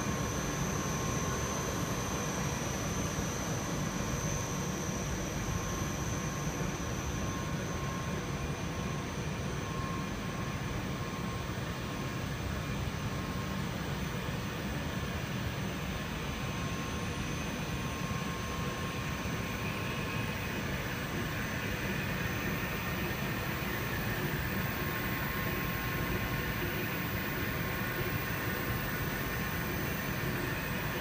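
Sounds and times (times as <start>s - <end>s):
faint thin whine: 0.0s - 31.0s.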